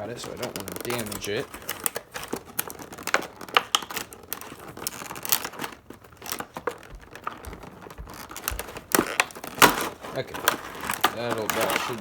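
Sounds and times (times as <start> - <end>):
packaging crinkling: 0.0 - 12.0
small clicks and scrapes: 0.0 - 12.0
tape peeling: 0.0 - 12.0.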